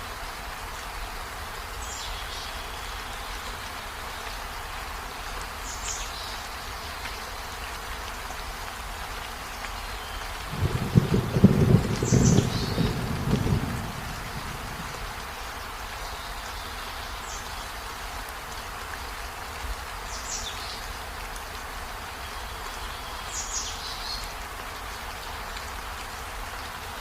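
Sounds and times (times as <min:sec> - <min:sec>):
steady rain-like hiss: 0:00.0 - 0:27.0.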